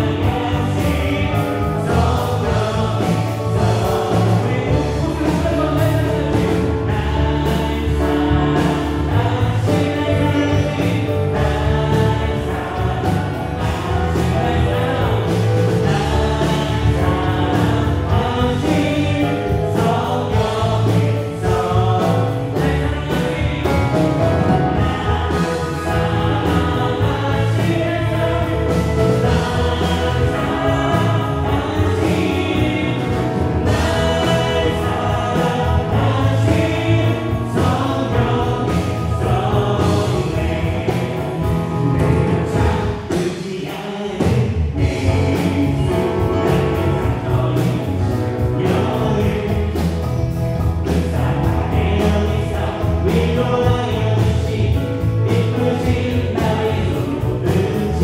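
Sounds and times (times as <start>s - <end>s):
group of voices singing: 0.0s - 58.0s
live band playing: 0.0s - 58.0s.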